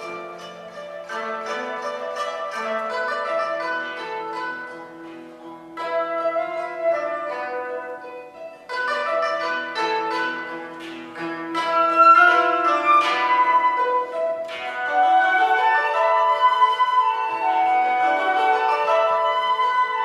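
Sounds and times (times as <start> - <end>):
plucked zither notes: 0.0 - 20.0.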